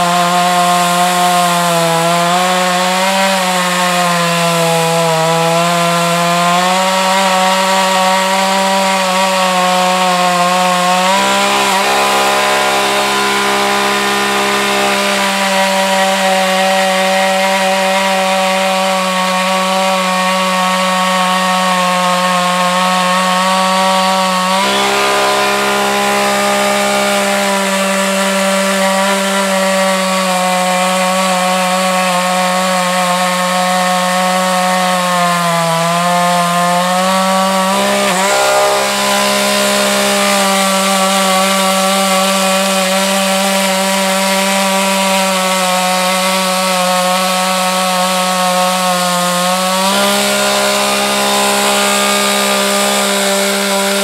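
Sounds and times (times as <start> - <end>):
chainsaw cutting through log: 0.0 - 54.0.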